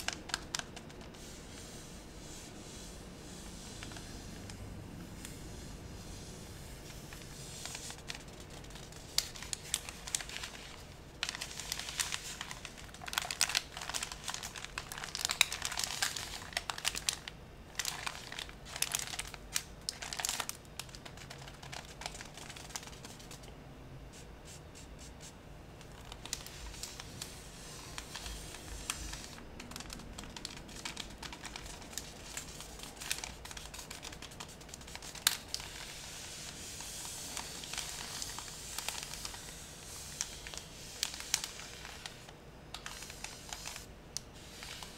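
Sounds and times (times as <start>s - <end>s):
toilet paper crinkling: 0.0s - 2.8s, 6.9s - 23.4s, 25.8s - 44.9s.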